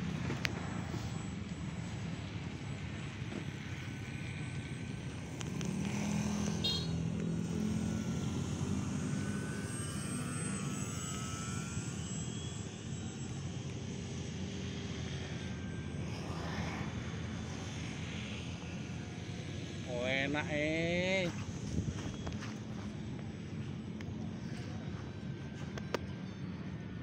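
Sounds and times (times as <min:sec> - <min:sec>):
model airplane motor droning: 0:00.0 - 0:27.0.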